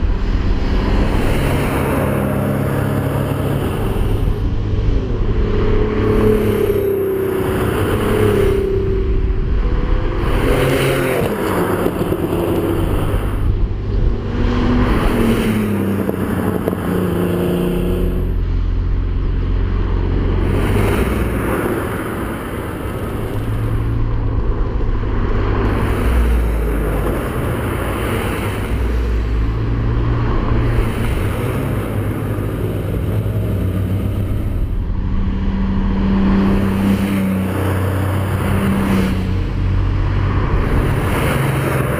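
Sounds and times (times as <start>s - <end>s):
car engines revving: 0.0s - 41.9s
road and wind noise: 0.0s - 41.9s.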